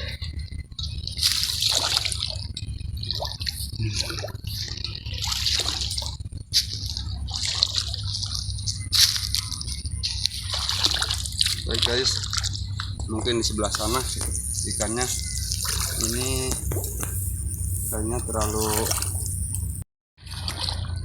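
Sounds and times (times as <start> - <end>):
steady low rumble: 0.0 - 21.0
water splashing and dripping: 0.2 - 19.8.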